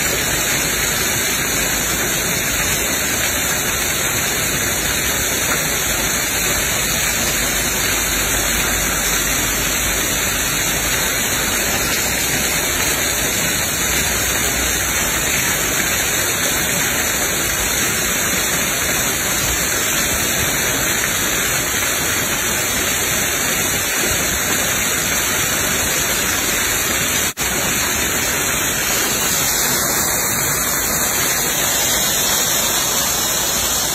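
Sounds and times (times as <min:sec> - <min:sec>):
waterfall rushing and splashing: 0:00.0 - 0:33.9.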